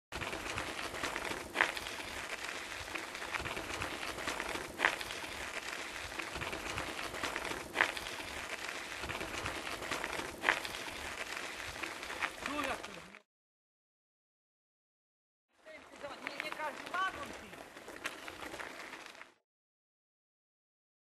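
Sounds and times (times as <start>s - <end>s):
footsteps crunching on ballast: 0.1s - 13.2s, 15.7s - 19.4s.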